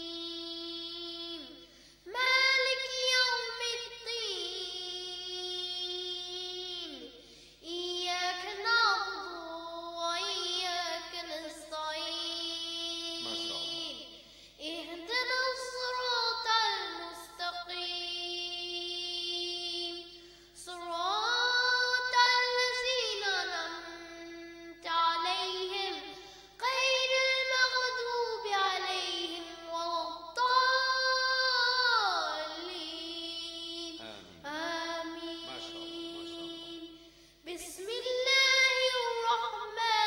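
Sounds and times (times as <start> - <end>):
boy chanting melodically: 0.0 - 40.0.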